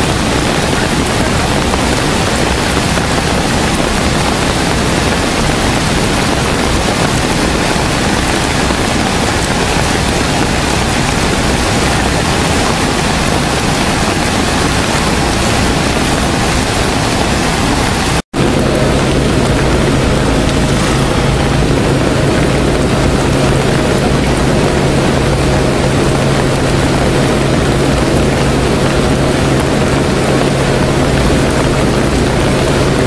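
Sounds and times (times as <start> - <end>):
low hum: 0.0 - 33.0
torrential rain and running water: 0.0 - 33.0.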